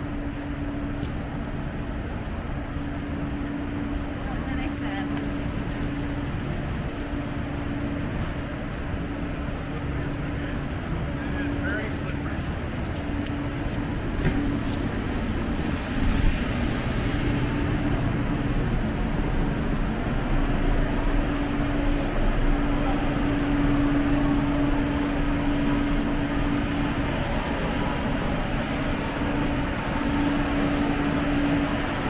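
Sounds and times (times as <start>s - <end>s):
steady low hum: 0.0s - 32.0s
vehicles running: 0.0s - 32.0s.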